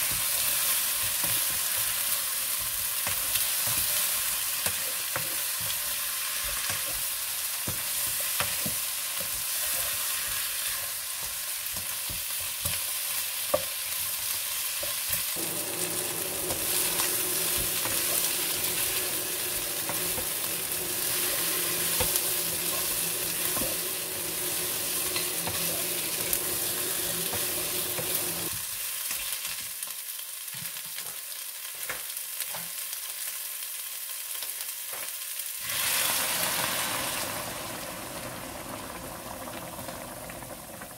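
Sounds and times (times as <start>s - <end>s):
chicken sizzling in a wok: 0.0s - 40.9s.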